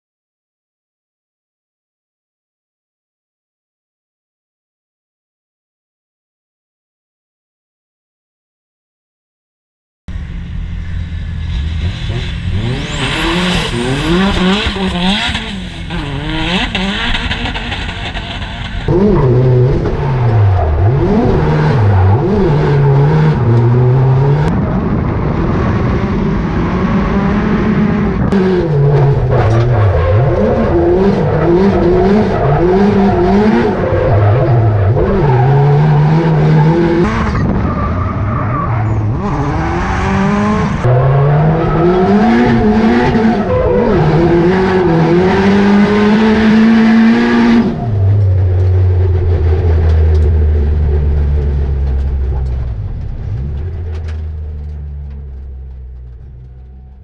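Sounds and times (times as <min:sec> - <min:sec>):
car engine revving: 0:10.1 - 0:57.0.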